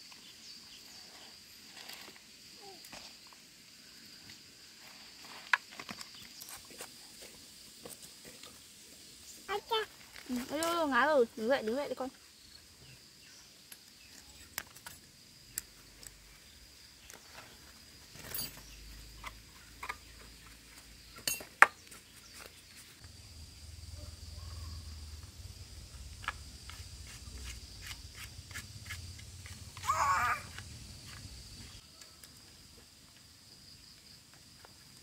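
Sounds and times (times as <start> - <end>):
high-pitched insect trill: 0.0 - 35.0.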